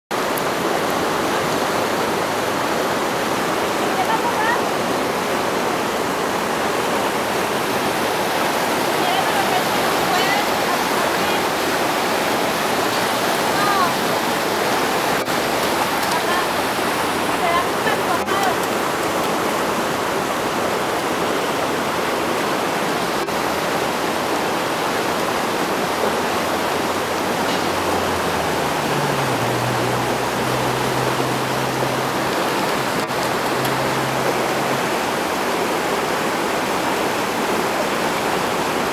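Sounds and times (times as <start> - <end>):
river rushing over stones: 0.1 - 38.9.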